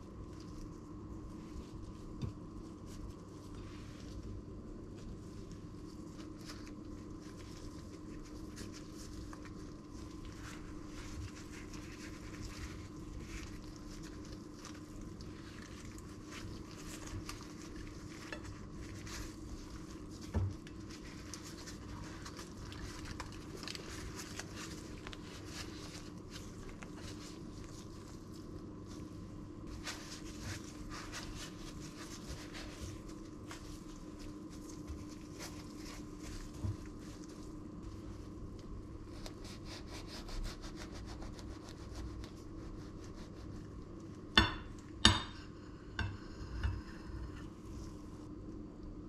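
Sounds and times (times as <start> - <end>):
flatbread wrap rustling: 0.0 - 44.3
steady low hum: 0.0 - 49.0.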